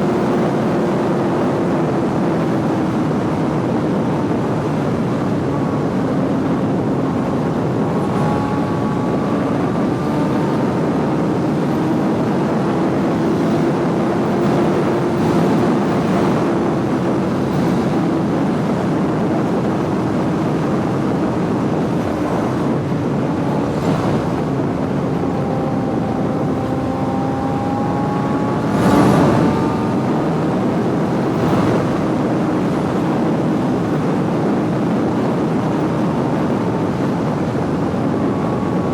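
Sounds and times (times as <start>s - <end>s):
motorcycle engine running: 0.0s - 38.9s
rushing noise: 0.0s - 38.9s.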